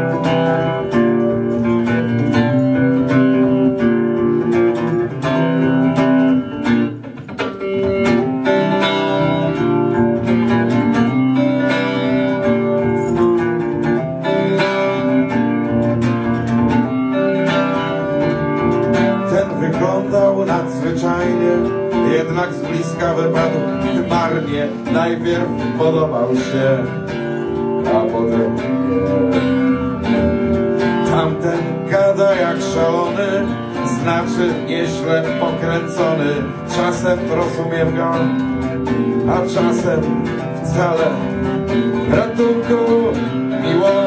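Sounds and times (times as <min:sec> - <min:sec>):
solo electric guitar chords: 0:00.0 - 0:44.0.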